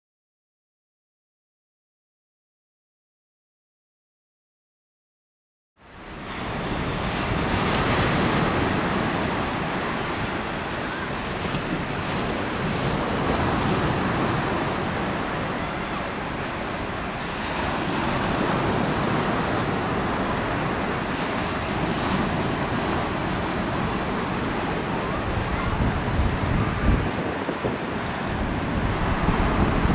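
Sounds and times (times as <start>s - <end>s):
waves breaking on shore: 5.8s - 29.9s
wind gusting on microphone: 5.9s - 29.9s.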